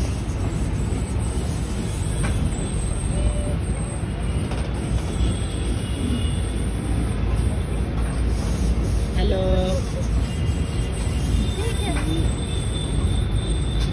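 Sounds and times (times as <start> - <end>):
low mechanical rumble of ride: 0.0 - 13.9.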